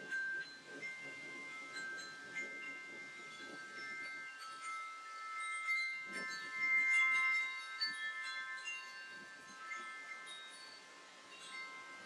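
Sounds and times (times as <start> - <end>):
low rumble of wind: 0.0 - 12.0
metal wind chimes ringing: 0.0 - 12.0.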